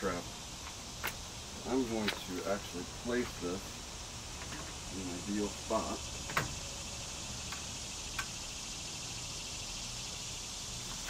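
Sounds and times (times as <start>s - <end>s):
insects hissing: 0.0s - 11.0s.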